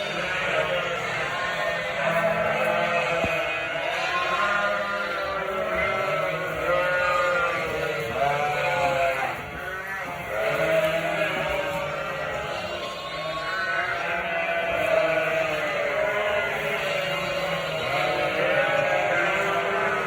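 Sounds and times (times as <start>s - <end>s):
sheep and lambs bleating: 0.0s - 20.0s.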